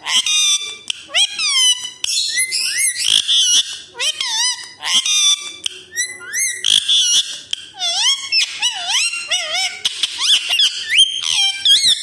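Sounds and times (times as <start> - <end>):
parakeet chirping and whistling: 0.0 - 12.0.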